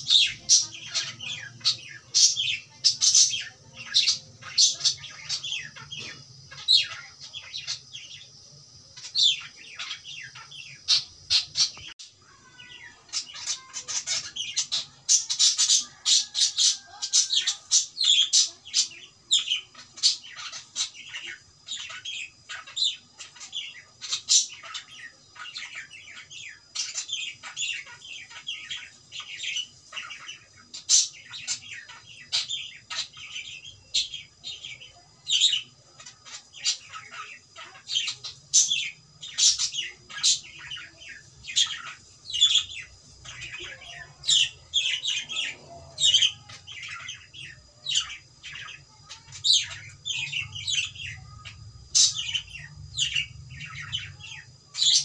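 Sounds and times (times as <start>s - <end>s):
cockatiel chirping and squawking: 0.0s - 8.3s, 9.0s - 55.0s.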